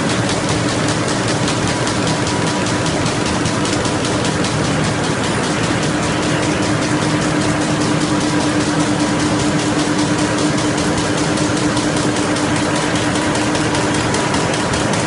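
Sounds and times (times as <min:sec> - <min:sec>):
folding machine clatter: 0:00.0 - 0:15.0
machine hum: 0:00.0 - 0:15.0.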